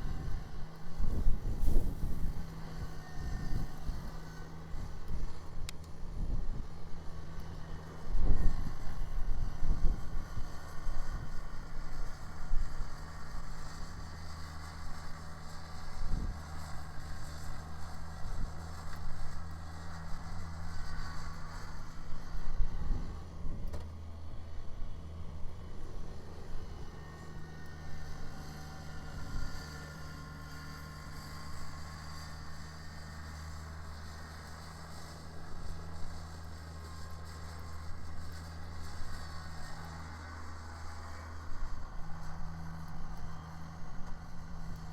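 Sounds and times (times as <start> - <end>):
snow blower clearing snow: 0.0 - 44.9
tractor diesel engine running: 0.0 - 44.9.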